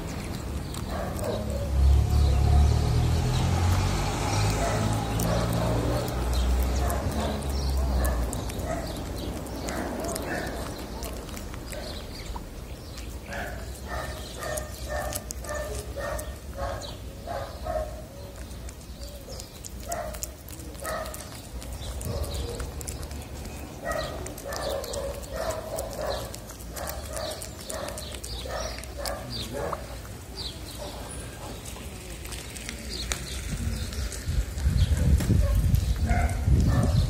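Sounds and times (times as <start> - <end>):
cat chewing wet food: 0.0 - 37.0.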